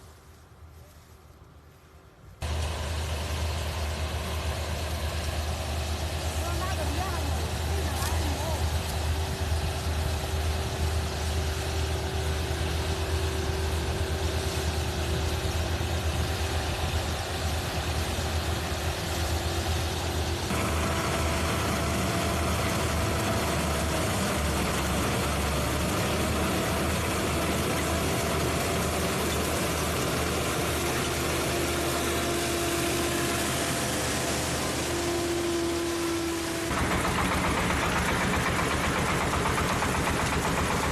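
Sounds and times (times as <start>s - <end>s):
farm machine engine running: 2.4s - 40.9s.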